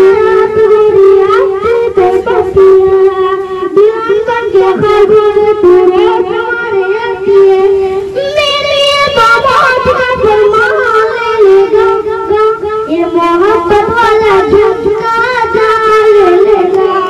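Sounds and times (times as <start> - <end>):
boy singing into a microphone: 0.0 - 17.0.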